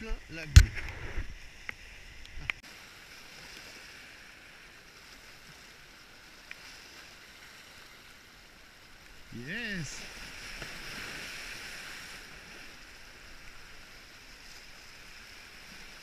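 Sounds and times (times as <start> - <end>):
small waves washing against rocks: 2.7 - 16.0.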